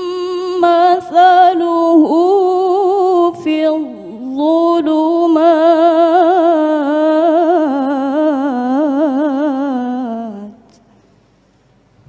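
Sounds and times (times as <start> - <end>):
woman reciting melodically: 0.0 - 10.8.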